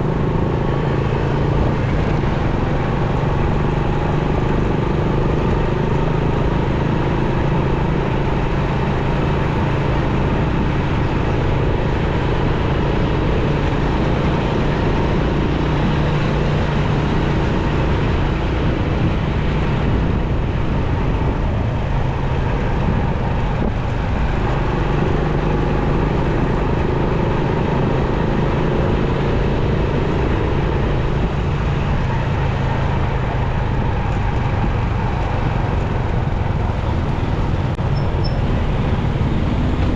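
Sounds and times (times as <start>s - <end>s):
motorcycle engine running: 0.0s - 39.9s
road and traffic noise: 0.0s - 39.9s.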